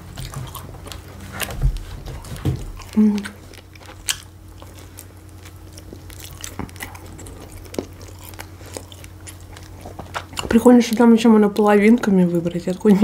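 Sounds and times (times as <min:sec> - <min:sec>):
close chewing of food: 0:00.0 - 0:13.0
faint steady hum: 0:00.0 - 0:13.0.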